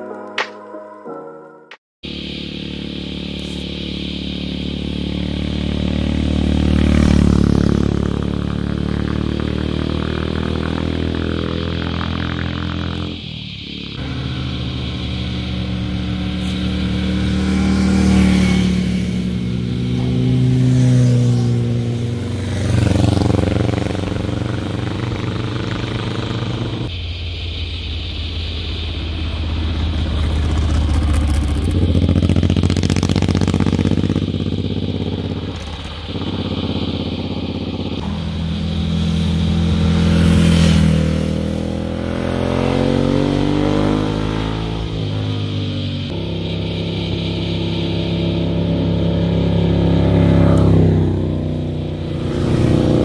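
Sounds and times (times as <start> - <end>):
motorcycles revving past: 2.1 - 26.9, 29.0 - 53.0.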